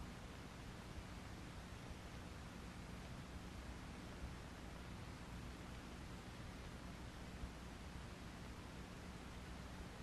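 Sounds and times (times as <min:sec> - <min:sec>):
low electrical hum: 0:00.0 - 0:10.0
steady hiss: 0:00.0 - 0:10.0.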